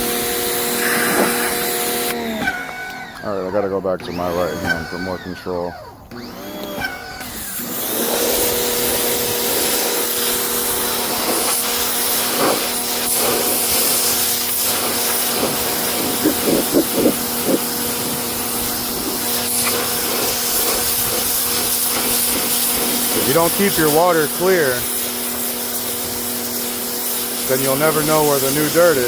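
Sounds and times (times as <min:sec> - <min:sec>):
water spray hissing: 0:00.0 - 0:02.6, 0:07.5 - 0:29.0
pressure washer motor hum: 0:00.0 - 0:29.0.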